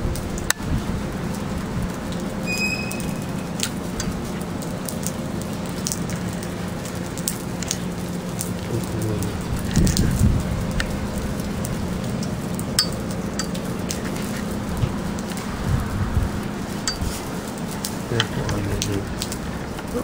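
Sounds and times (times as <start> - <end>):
wind buffeting microphone: 0.0 - 2.4, 3.0 - 20.0
steady low hum: 0.0 - 20.0.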